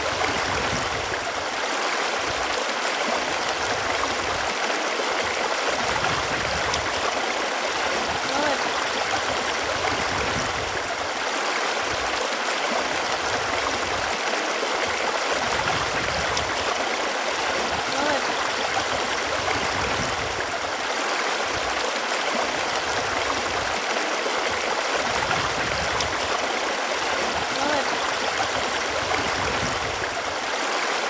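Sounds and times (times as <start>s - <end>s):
running water flowing: 0.0s - 31.0s.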